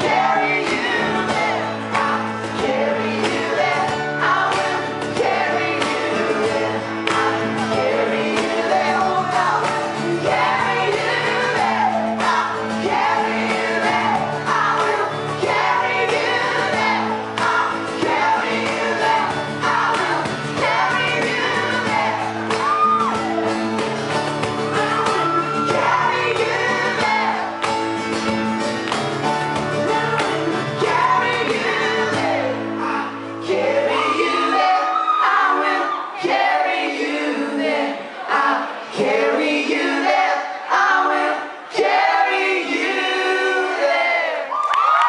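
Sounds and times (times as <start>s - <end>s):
voices singing in harmony: 0.0s - 44.5s
guitar: 0.0s - 45.0s.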